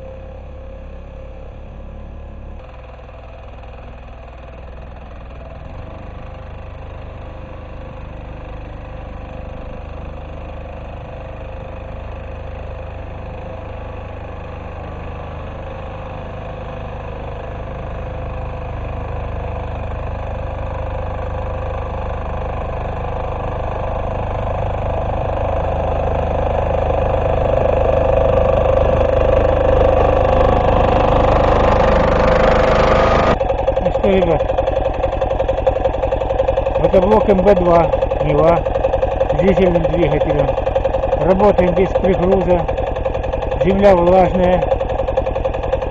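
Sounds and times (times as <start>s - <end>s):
diesel tractor engine running: 0.0s - 45.9s.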